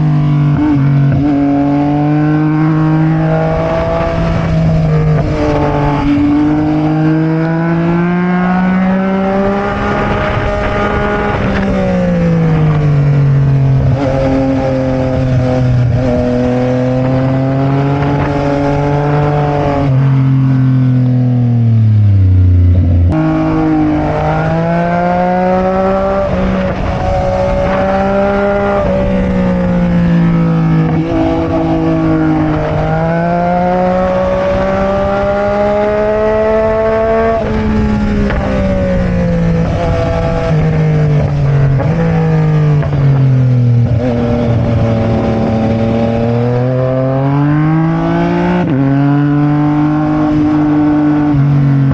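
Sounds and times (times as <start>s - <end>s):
motorcycle engine revving: 0.0s - 51.9s
wind rumble: 0.1s - 51.9s.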